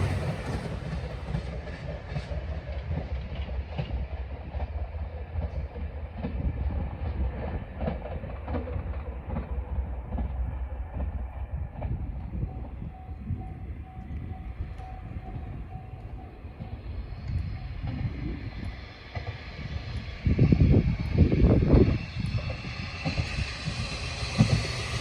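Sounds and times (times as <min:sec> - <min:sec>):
train rumbling on the track: 0:00.0 - 0:25.0.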